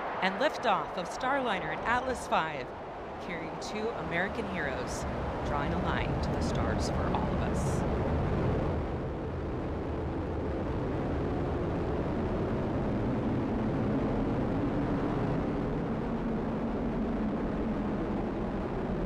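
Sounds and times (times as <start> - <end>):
rocket engine low rumble: 0.0 - 19.0.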